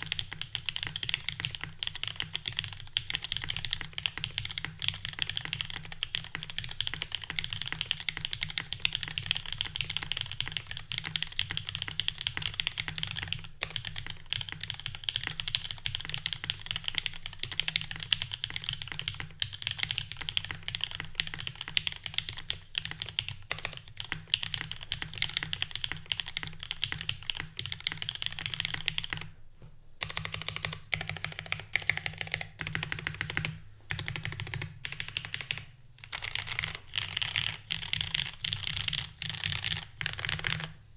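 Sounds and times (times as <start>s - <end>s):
mechanical keyboard typing: 0.0s - 29.3s, 30.0s - 40.8s.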